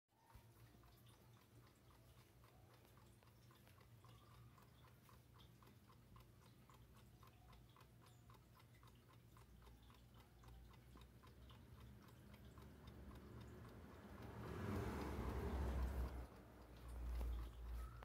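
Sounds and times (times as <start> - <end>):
wall clock ticking: 0.1 - 18.0.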